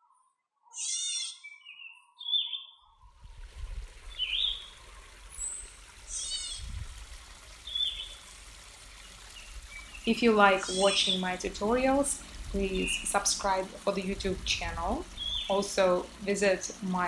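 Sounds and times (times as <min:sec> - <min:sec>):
birds chirping: 0:00.0 - 0:03.1, 0:04.0 - 0:06.8, 0:07.5 - 0:17.0
background hiss with low rumble: 0:03.1 - 0:17.0.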